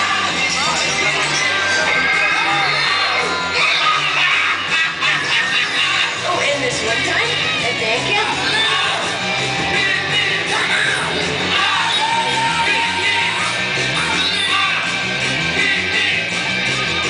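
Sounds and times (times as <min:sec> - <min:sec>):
loud show music with singing: 0:00.0 - 0:17.0.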